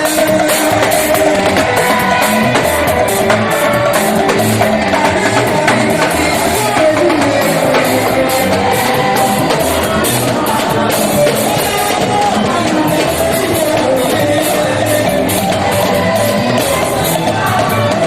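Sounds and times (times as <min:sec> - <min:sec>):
band with drums: 0:00.0 - 0:18.0
choir singing: 0:00.0 - 0:18.0.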